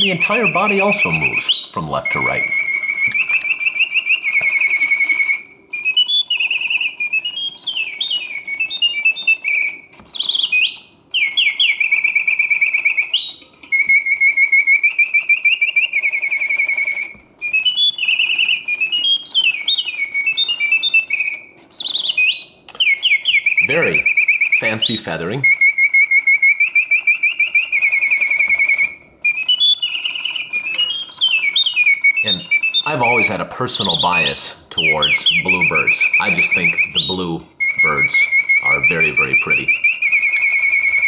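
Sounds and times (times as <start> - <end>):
mechanical bird whistling birdsong: 0.0 - 41.0.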